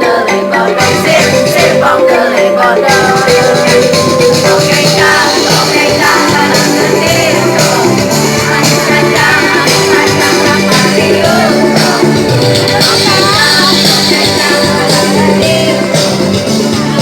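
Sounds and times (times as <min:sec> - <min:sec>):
choir singing: 0:00.0 - 0:17.0
music with steady beat: 0:00.0 - 0:17.0.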